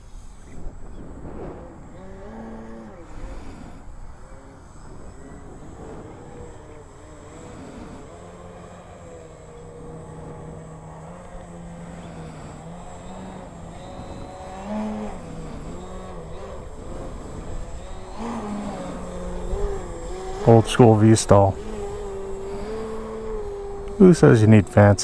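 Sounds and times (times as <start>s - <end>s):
model airplane propeller droning: 0.0s - 25.0s.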